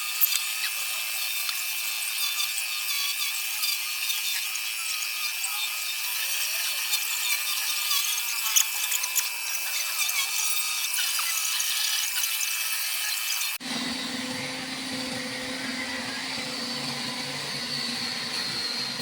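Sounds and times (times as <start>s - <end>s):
power tool whining on wood: 0.0s - 19.0s.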